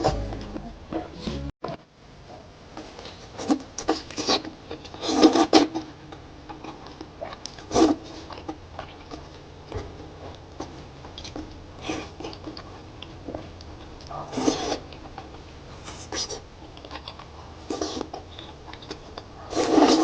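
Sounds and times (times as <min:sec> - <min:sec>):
close chewing and mouth noise: 0:02.9 - 0:20.0.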